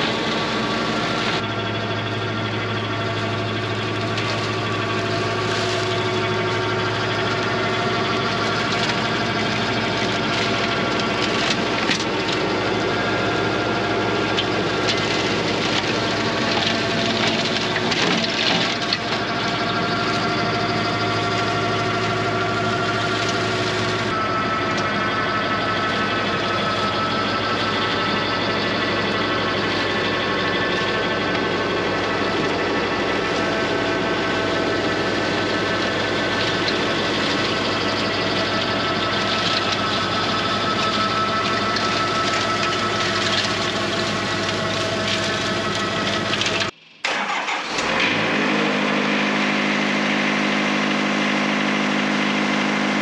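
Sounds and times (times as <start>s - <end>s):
flail mower shredding grass: 0.0s - 53.0s
tractor diesel engine running: 0.0s - 53.0s.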